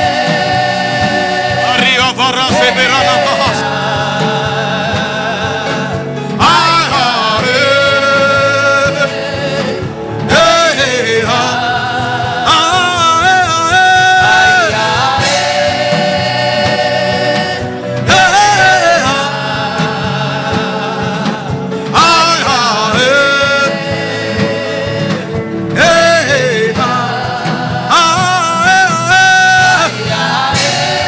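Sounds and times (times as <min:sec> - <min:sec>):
gospel chant singing: 0:00.0 - 0:31.0
instrumental backing: 0:00.0 - 0:31.0.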